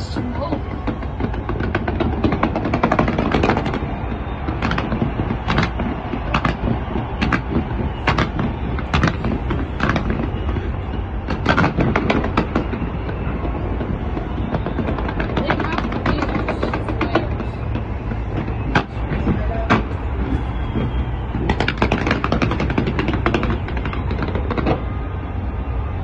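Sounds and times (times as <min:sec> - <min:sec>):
firework bang: 0:00.0 - 0:26.0
fireworks popping and crackling: 0:00.0 - 0:26.0.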